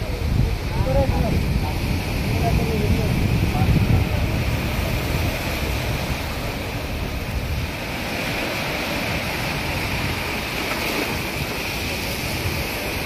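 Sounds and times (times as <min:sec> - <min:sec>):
sea surf rushing: 0:00.0 - 0:13.0
wind buffeting microphone: 0:00.0 - 0:13.0.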